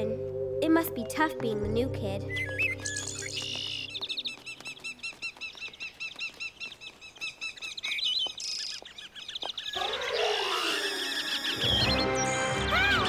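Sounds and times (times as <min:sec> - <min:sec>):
cartoon birds chirping: 0:02.2 - 0:13.0.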